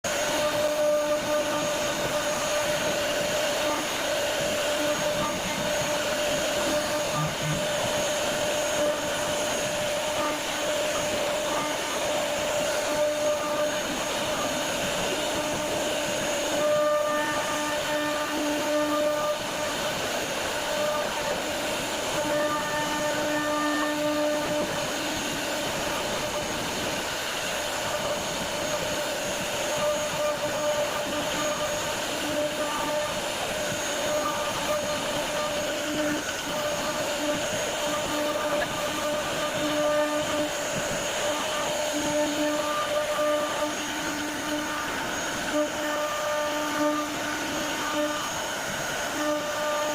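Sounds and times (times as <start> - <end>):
cutting hiss: 0.0 - 49.9
router spindle whine: 0.0 - 49.9.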